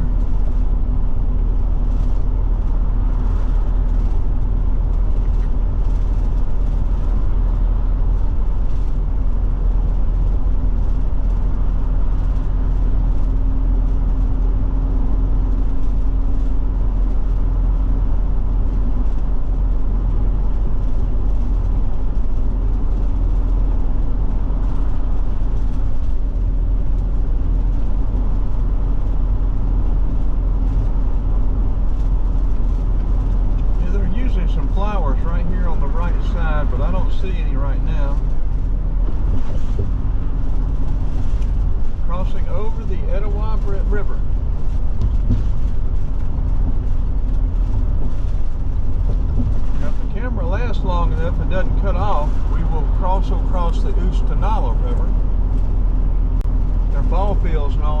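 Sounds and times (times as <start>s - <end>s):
motorhome engine and road noise: 0.0s - 58.0s.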